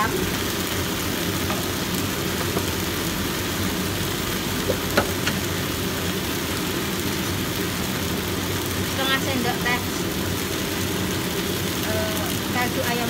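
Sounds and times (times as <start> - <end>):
leaves sizzling in a wok: 0.0 - 13.0.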